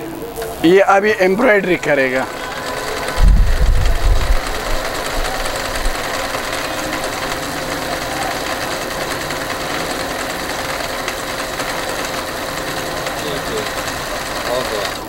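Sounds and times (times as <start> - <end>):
sewing machine running: 0.0 - 15.0.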